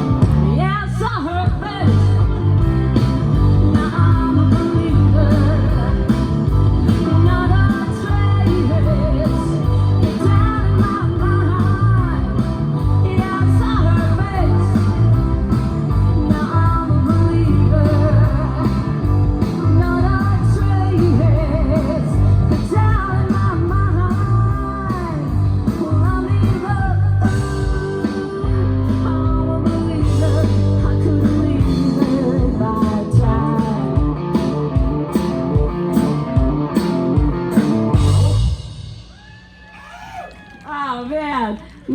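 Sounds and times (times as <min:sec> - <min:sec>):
rock band music with guitar: 0:00.0 - 0:39.6.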